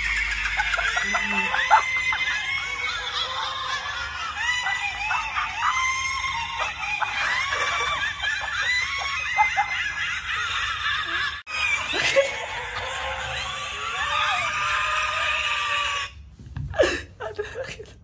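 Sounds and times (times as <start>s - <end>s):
person laughing: 0.0s - 15.0s
shrill cackling laughter: 0.0s - 16.2s.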